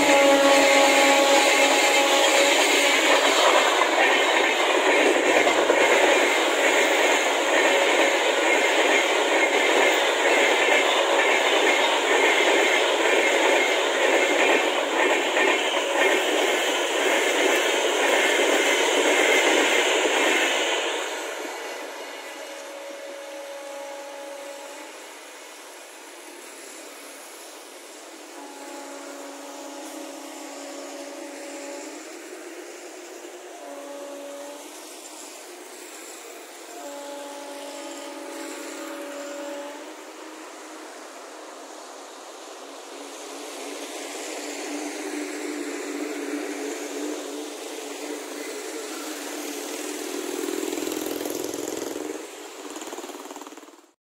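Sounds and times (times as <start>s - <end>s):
train wheels hissing on rails: 0.0s - 54.0s.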